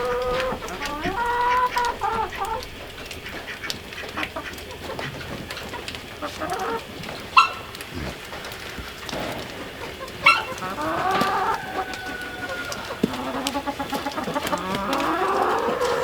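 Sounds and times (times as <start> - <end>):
chicken squawk: 0.0 - 8.3, 9.8 - 16.0
chickens clucking: 0.0 - 16.0.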